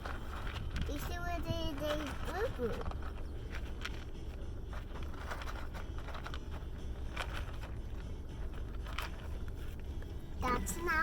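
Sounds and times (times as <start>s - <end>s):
faint clicks and rustles: 0.0s - 10.2s
car engine idling: 0.0s - 11.0s.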